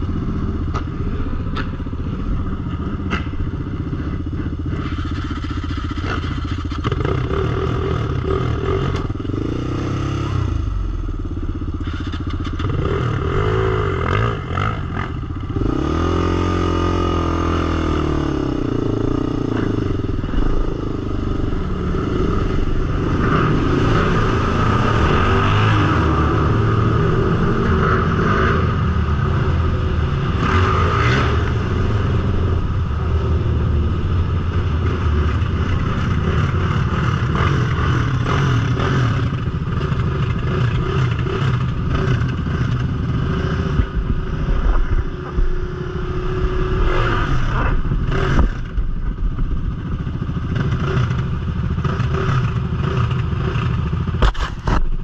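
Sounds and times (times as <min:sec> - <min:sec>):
quad engine revving: 0:02.7 - 0:10.8, 0:11.9 - 0:48.8, 0:49.6 - 0:54.8.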